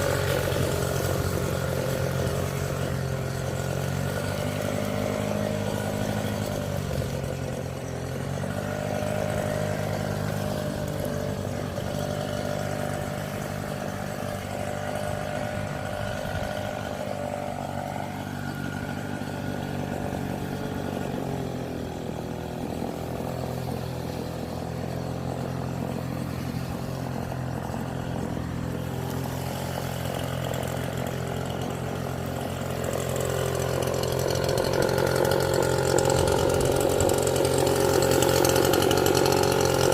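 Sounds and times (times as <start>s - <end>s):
leaf blower engine running: 0.0s - 39.9s.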